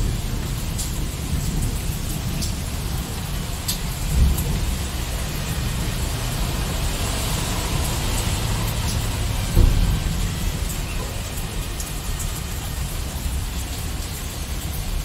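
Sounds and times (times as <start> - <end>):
low rumble of thunder: 0.0 - 15.0
steady rain: 0.0 - 15.0.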